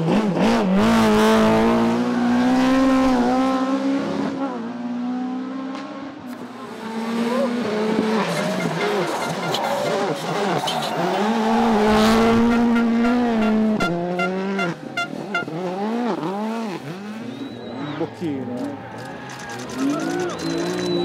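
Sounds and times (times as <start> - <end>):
rally car engine at full throttle: 0.0 - 21.0.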